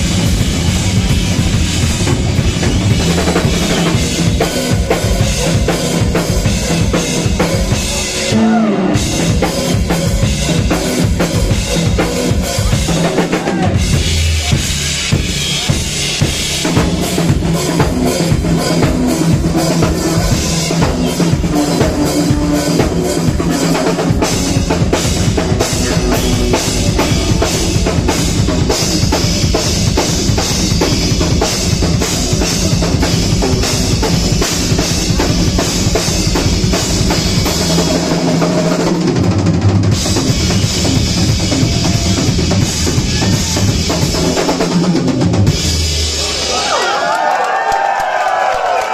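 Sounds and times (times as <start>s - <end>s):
drum kit kick and snare beat: 0.0s - 46.8s
live band music: 0.0s - 46.9s.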